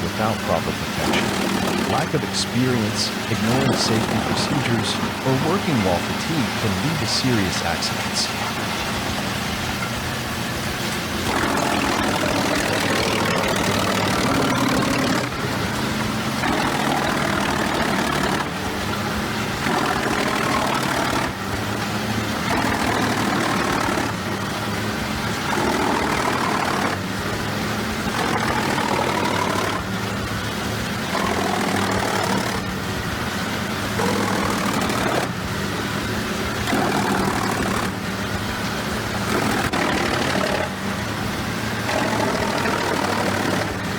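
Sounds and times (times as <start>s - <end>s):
wood chipper grinding: 0.0s - 6.9s, 8.3s - 43.9s
wood chipper engine drone: 0.0s - 43.9s.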